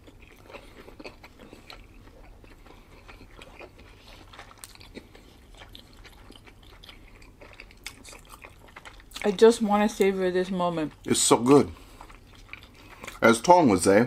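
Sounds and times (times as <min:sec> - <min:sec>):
chewing with wet mouth clicks: 0:00.0 - 0:10.2, 0:11.8 - 0:13.3.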